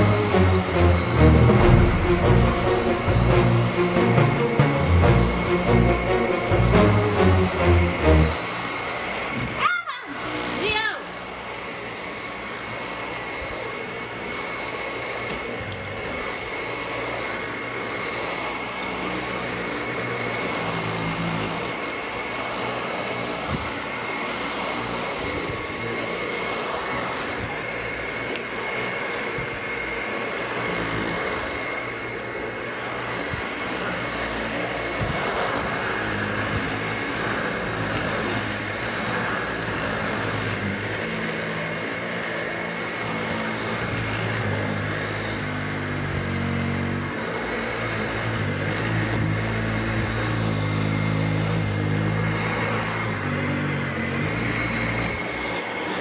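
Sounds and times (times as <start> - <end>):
vacuum cleaner whining: 0.0 - 56.0.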